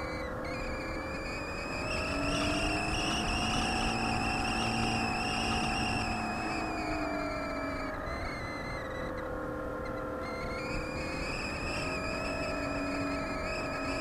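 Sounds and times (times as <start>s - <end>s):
motor and propeller whining: 0.0s - 14.0s.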